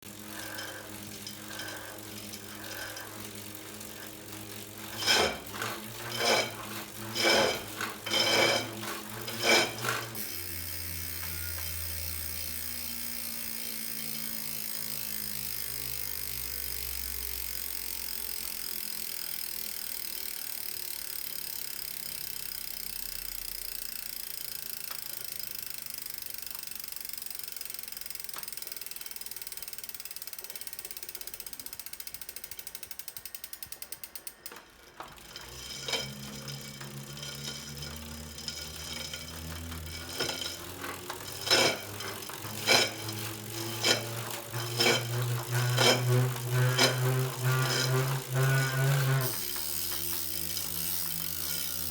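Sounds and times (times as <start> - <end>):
bike trainer scraping noise: 0.0 - 51.9
ratchet-like ticking: 0.0 - 51.9.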